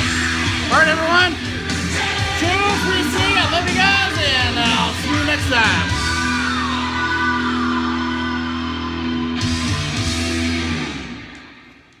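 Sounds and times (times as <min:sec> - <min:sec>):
sliding guitar line: 0:00.0 - 0:11.6
heavy rock music: 0:00.0 - 0:11.7
distorted electric guitar: 0:00.0 - 0:12.0.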